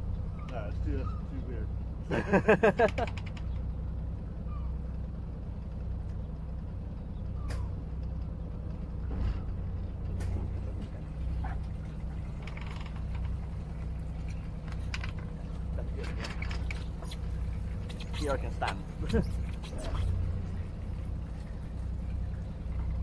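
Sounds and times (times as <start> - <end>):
boat engine low hum: 0.0 - 23.0.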